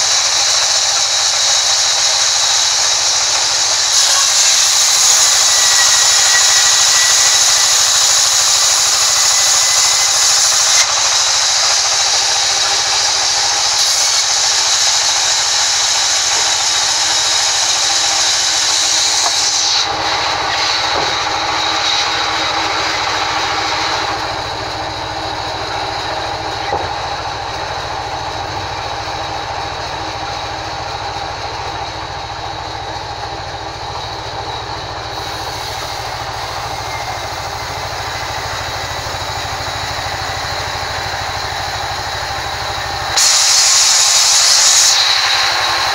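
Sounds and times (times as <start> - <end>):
band saw cutting through wood: 0.0 - 45.9.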